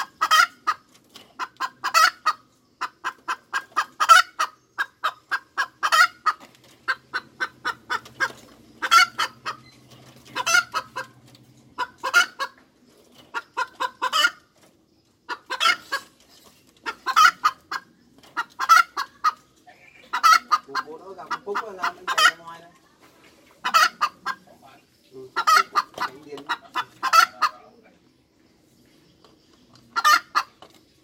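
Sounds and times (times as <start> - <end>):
hen cackling: 0.0 - 12.6, 13.3 - 14.6, 15.3 - 16.2, 16.8 - 22.7, 23.6 - 27.8, 29.9 - 30.6.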